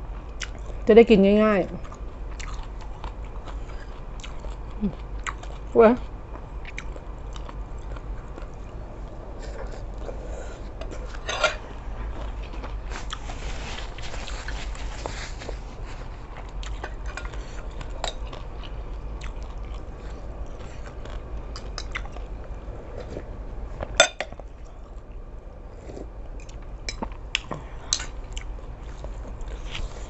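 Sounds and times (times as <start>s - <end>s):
person chewing: 0.2s - 0.8s, 1.8s - 30.0s.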